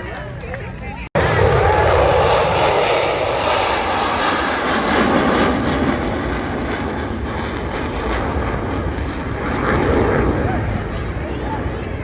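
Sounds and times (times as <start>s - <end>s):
airplane engine: 1.1s - 12.0s.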